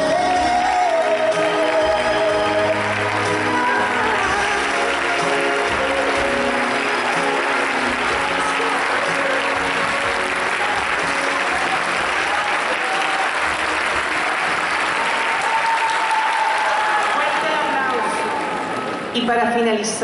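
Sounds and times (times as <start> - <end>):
song accompaniment: 0.0 - 16.9
audience applauding: 0.0 - 19.1.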